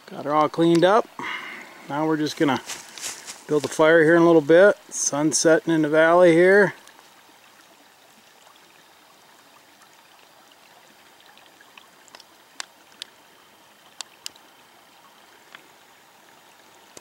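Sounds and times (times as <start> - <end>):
creek trickling: 0.0 - 17.0.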